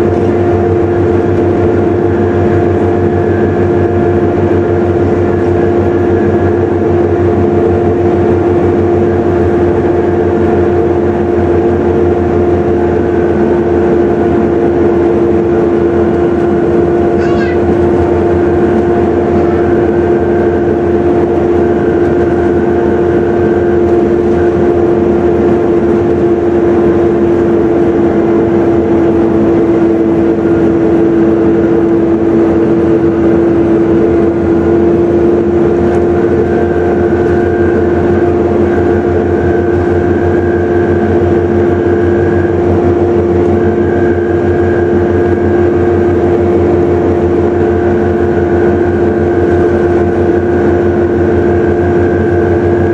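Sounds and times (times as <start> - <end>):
diesel bus engine running: 0.0 - 52.9
loud steady whine: 0.0 - 52.9.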